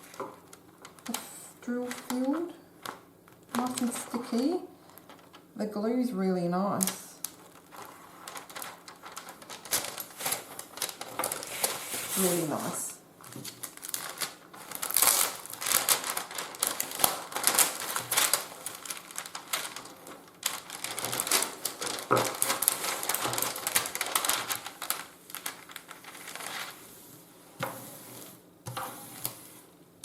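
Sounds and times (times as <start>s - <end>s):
plastic film crackling as peeled: 0.0s - 5.6s, 6.8s - 27.3s.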